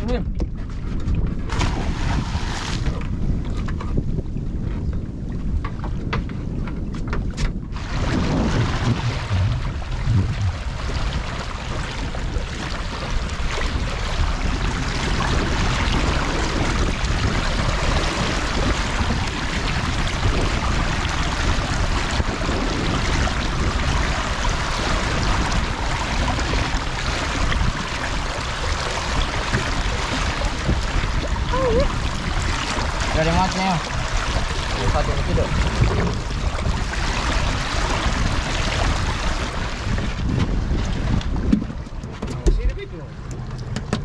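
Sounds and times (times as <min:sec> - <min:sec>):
seawater rushing and splashing: 0:01.5 - 0:03.1, 0:07.7 - 0:43.9.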